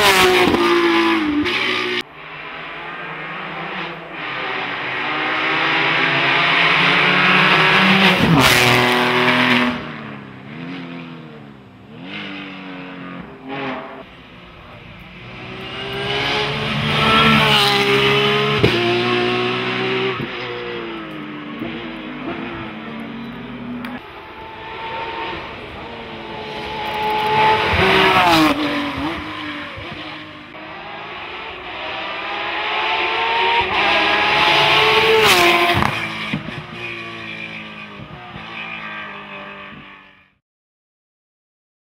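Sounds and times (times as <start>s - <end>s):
race car engine passing by: 0.0s - 39.9s.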